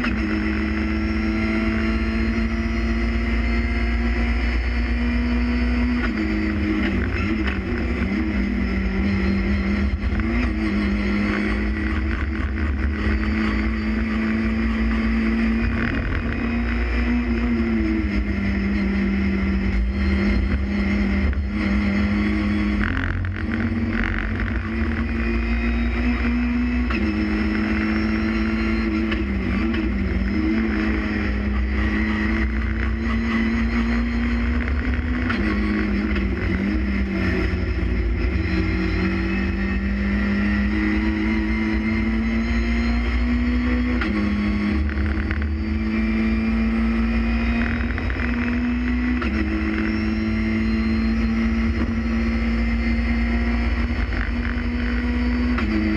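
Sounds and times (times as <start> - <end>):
race car engine revving through gears: 0.0 - 55.9
road and tyre rumble: 0.0 - 55.9.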